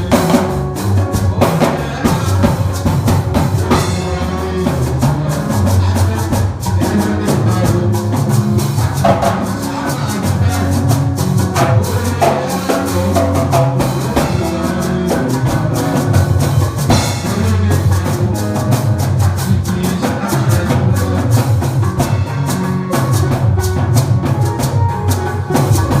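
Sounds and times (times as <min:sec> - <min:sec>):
bass line: 0:00.0 - 0:26.0
drum kit beat: 0:00.0 - 0:26.0
live band playing: 0:00.0 - 0:26.0.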